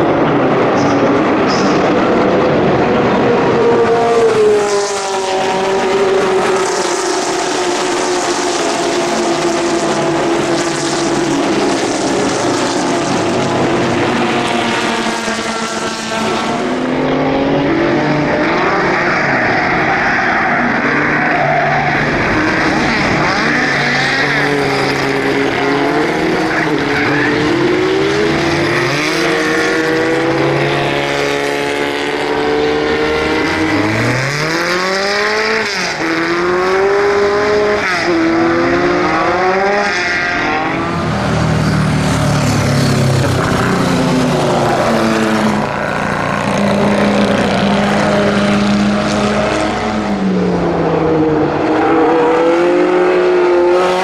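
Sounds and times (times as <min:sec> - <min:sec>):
racing car engines passing: 0:00.0 - 0:54.0.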